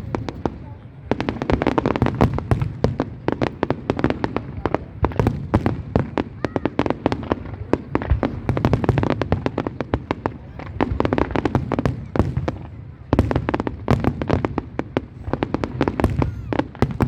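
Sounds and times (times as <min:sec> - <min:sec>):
fireworks cracks and bangs: 0:00.0 - 0:17.0.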